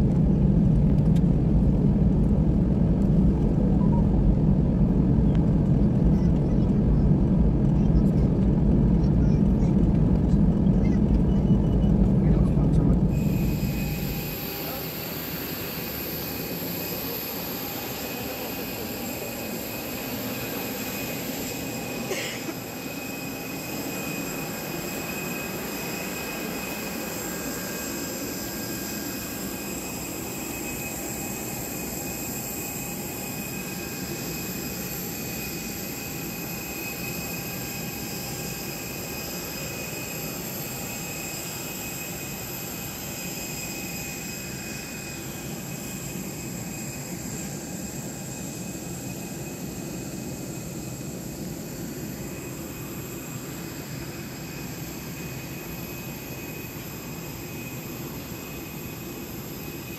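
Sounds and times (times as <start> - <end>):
jet turbine whine: 0.0 - 59.9.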